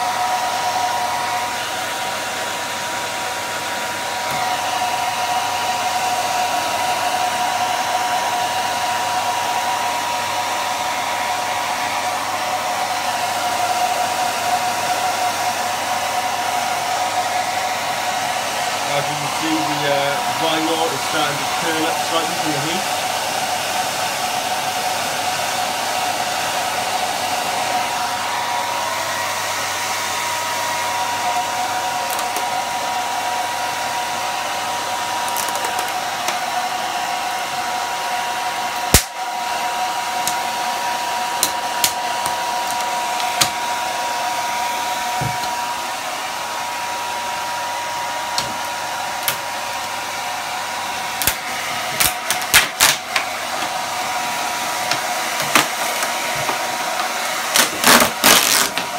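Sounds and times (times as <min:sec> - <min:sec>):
hair dryer whining: 0:00.0 - 0:58.9.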